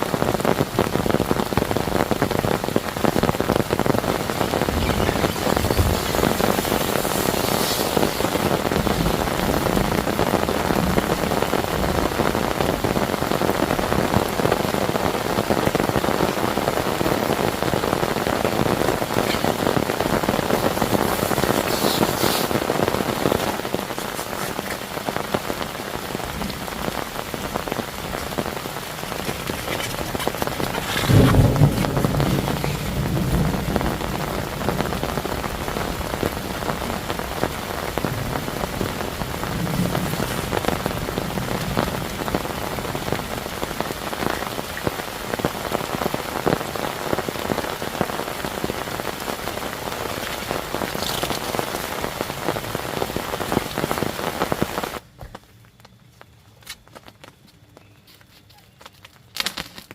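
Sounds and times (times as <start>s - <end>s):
heavy rain falling: 0.0s - 55.4s.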